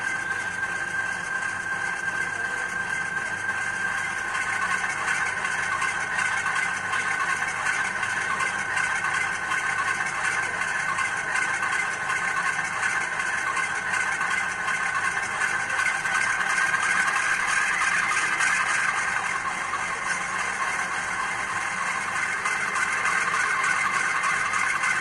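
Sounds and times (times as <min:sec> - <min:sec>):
diesel locomotive engine through small speaker: 0:00.0 - 0:25.0.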